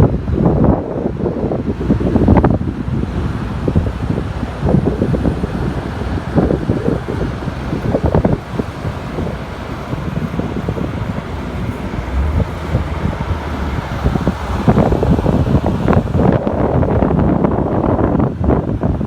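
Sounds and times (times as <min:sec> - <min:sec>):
road traffic noise: 0:00.0 - 0:19.0
wind buffeting microphone: 0:00.0 - 0:19.0.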